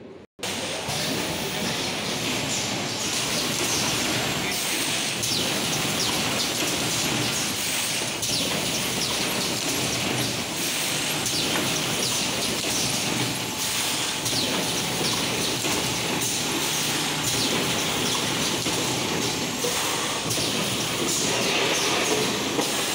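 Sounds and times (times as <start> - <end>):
factory machinery din: 0.0 - 22.9.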